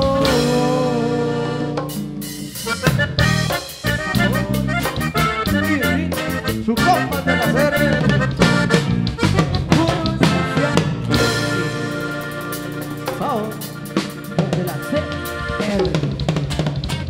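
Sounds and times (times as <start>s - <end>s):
live dance band music: 0.0s - 17.0s.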